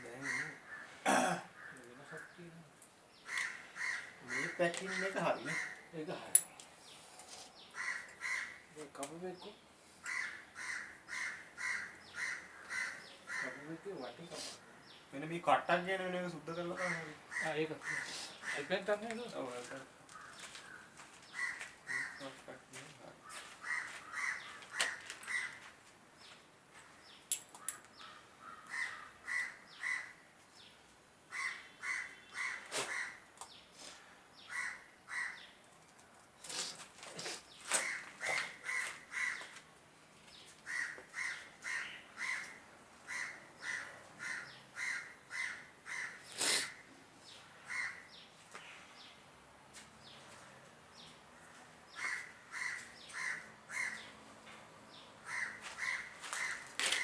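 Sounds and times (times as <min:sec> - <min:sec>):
bird calling: 0:00.0 - 0:15.1, 0:16.6 - 0:25.7, 0:26.9 - 0:30.2, 0:31.3 - 0:35.6, 0:36.5 - 0:39.6, 0:40.6 - 0:48.8, 0:51.0 - 0:54.2, 0:54.9 - 0:57.0.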